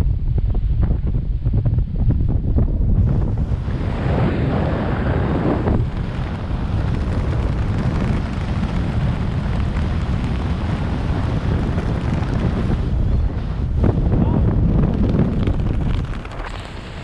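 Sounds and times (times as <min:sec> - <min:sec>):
wind roaring over microphone: 0:00.0 - 0:17.0.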